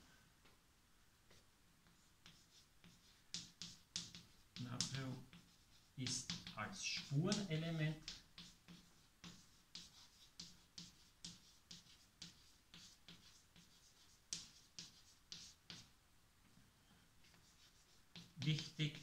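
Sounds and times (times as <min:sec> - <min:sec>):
chalk strokes on blackboard: 0:01.3 - 0:15.9, 0:17.2 - 0:19.0.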